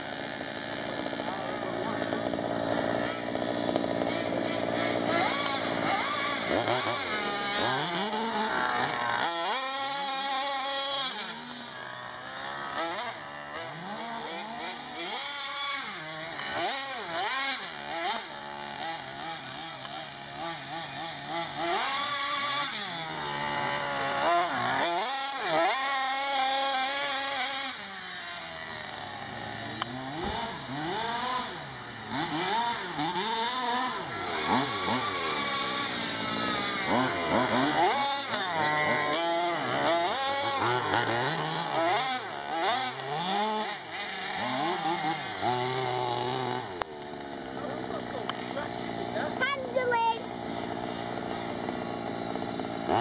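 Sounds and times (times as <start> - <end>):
rc truck engine revving: 0.0 - 53.0.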